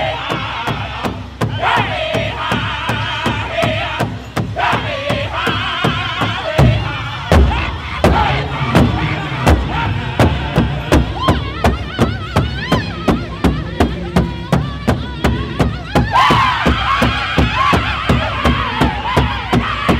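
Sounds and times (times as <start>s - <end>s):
group singing high-pitched in unison: 0.0s - 19.9s
large drum steady beat: 0.0s - 19.9s.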